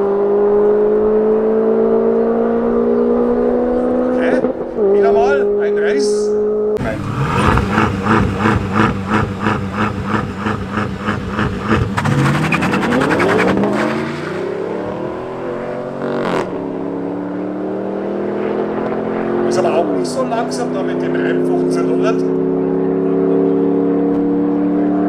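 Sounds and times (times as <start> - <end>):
car engine revving and accelerating: 0.0 - 25.0.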